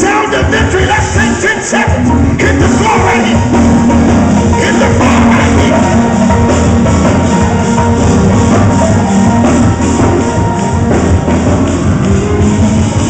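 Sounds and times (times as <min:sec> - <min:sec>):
live gospel band with drums: 0:00.0 - 0:13.0
fast tambourine beat: 0:02.0 - 0:13.0.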